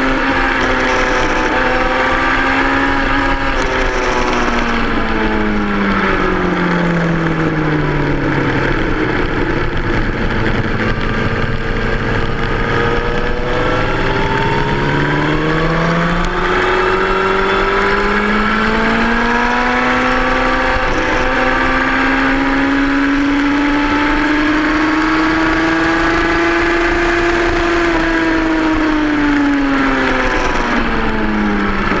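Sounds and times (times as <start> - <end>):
motorcycle engine: 0.0 - 32.0.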